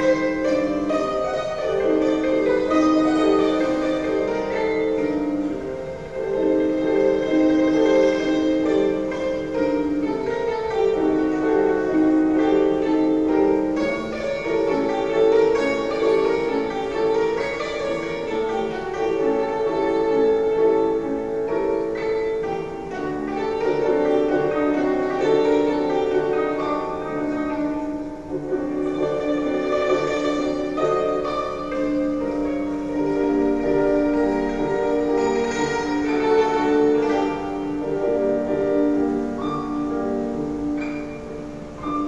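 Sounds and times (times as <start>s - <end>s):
instrumental music with long held notes: 0.0s - 42.0s.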